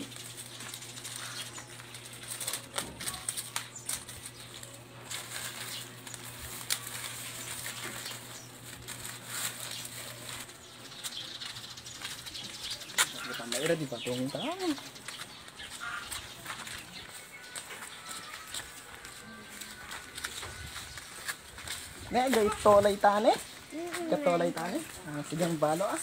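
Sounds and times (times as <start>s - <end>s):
plastic bag rustling: 0.0s - 26.0s.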